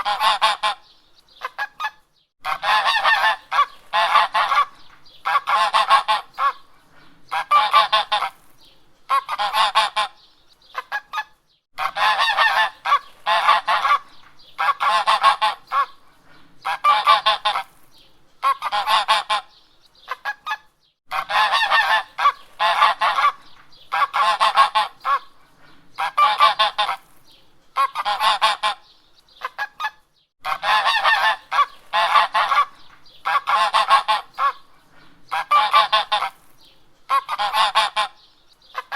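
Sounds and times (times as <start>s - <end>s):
geese honking: 0.0s - 6.7s, 7.3s - 8.4s, 9.1s - 10.2s, 10.8s - 16.0s, 16.6s - 17.7s, 18.4s - 25.3s, 26.0s - 27.0s, 27.8s - 34.7s, 35.3s - 36.4s, 37.1s - 38.2s.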